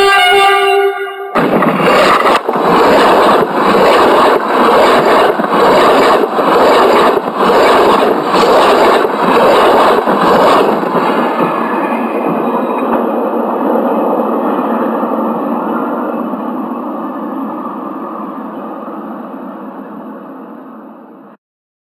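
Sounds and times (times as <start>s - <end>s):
train rushing past: 0.0s - 21.3s.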